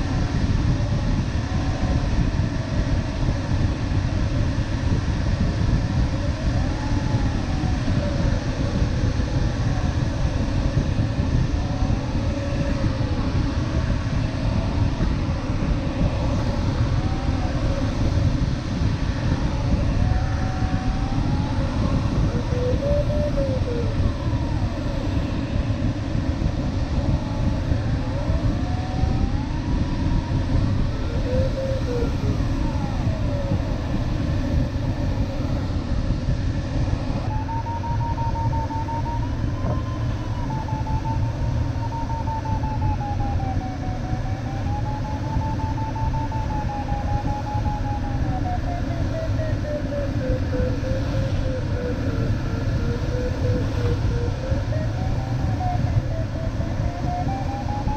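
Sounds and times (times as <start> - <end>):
rush of airflow in cockpit: 0.0 - 57.9
variometer tone gliding in pitch: 11.5 - 57.9.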